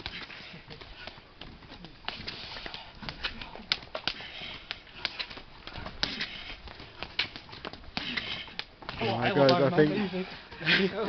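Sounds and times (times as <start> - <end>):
forearms smacking together: 0.0 - 9.7.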